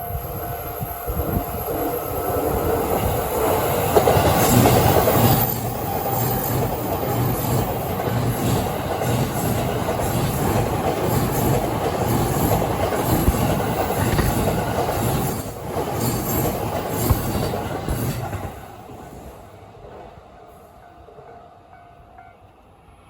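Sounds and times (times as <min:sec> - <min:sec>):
train wheels on rails: 0:00.0 - 0:21.3.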